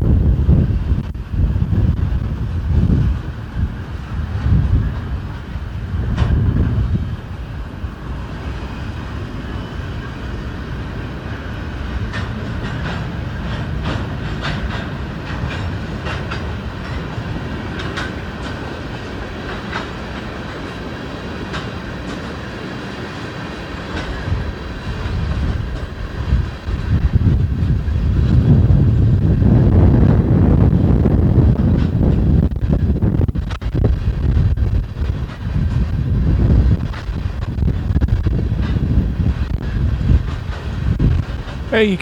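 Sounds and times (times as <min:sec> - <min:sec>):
wind buffeting microphone: 0:00.0 - 0:42.0
wheels clacking over rail joints: 0:00.9 - 0:41.8.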